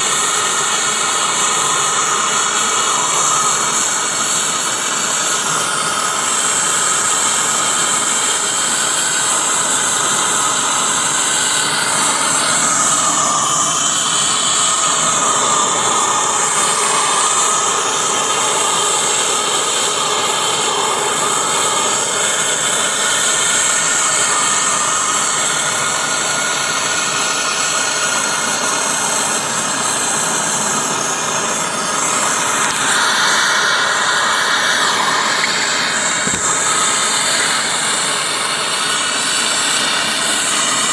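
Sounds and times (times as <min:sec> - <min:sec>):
gas torch hissing: 0:00.0 - 0:40.9.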